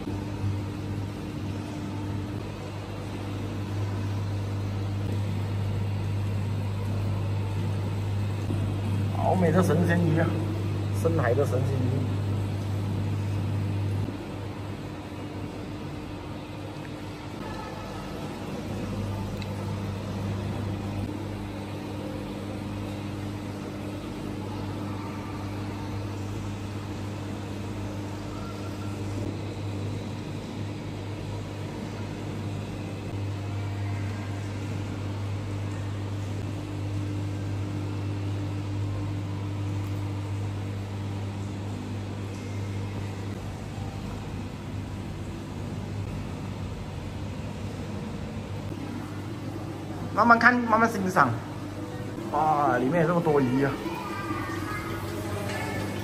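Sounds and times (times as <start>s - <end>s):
low machinery hum: 0.0s - 56.0s.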